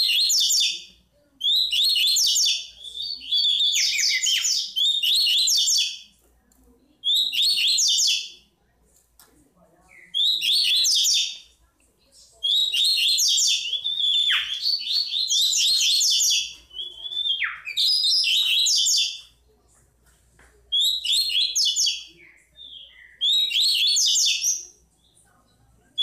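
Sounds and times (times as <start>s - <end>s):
bird singing high chirping phrases: 0.0s - 6.2s, 6.8s - 8.6s, 9.7s - 19.4s, 20.7s - 26.0s.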